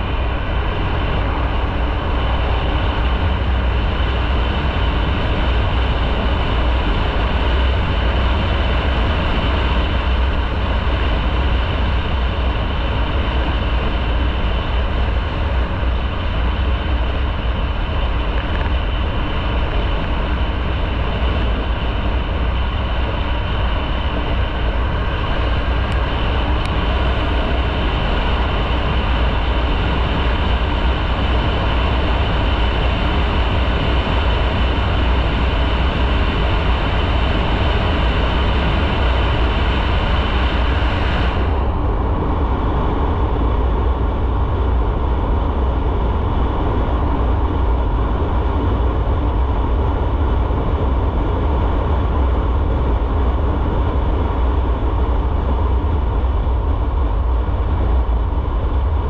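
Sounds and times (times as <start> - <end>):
motorcycle riding at steady speed: 0.0 - 59.0.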